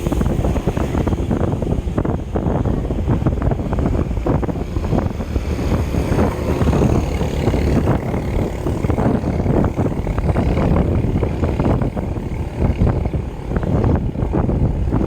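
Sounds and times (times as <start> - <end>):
road rumble while riding: 0.0 - 15.0
wind buffeting microphone: 0.0 - 15.0.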